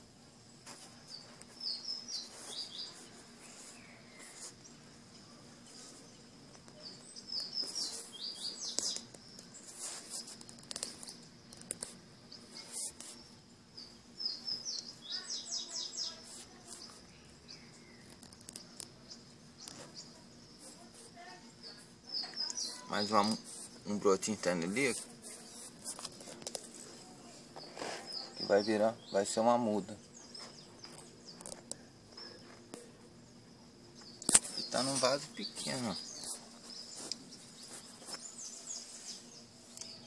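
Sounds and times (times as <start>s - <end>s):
small bird chirping: 0.6s - 40.0s.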